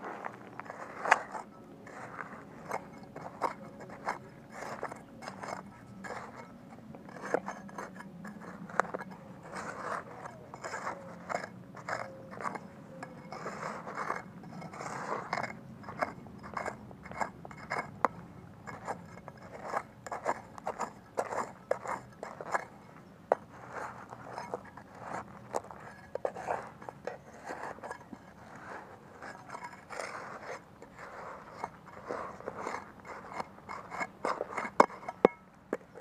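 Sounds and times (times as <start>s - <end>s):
metal hand digger scraping stony dirt: 0.0s - 36.0s.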